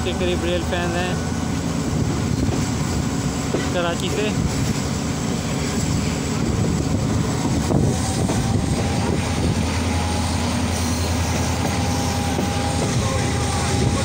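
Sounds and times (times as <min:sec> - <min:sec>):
locomotive engine drone: 0:00.0 - 0:14.0.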